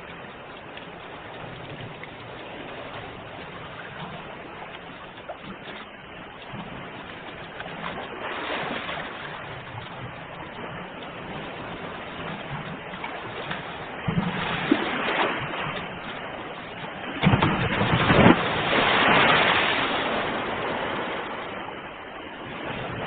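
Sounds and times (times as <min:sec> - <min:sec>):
ocean waves breaking: 0:00.0 - 0:23.0.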